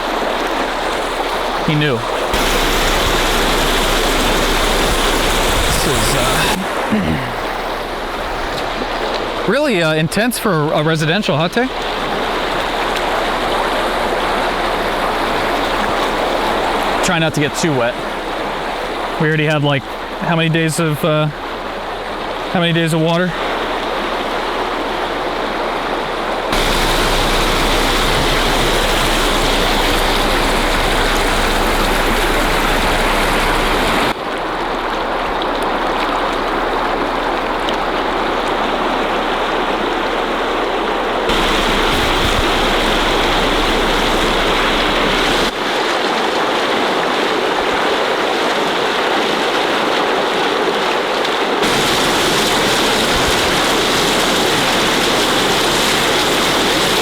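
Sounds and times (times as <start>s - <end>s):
water gushing from burst pipe: 0.0s - 45.8s, 51.6s - 57.0s.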